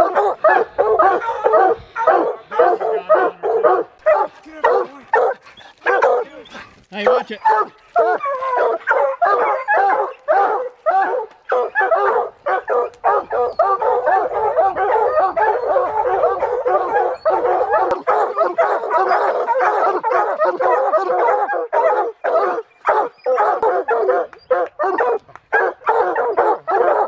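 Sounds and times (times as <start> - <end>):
hounds baying: 0.0 - 27.0.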